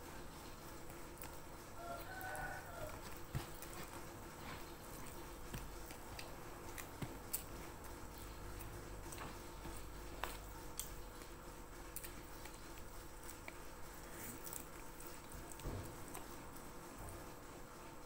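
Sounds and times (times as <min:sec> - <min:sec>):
chewing with mouth clicks: 0:00.6 - 0:17.3.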